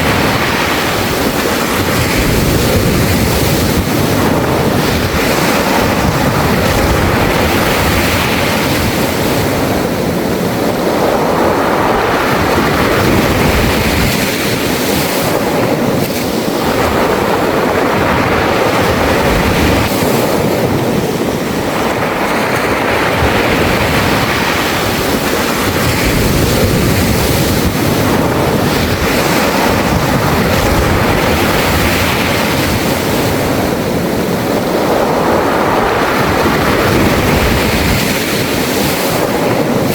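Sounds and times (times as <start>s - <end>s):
waves over pebble beach: 0.0s - 39.9s.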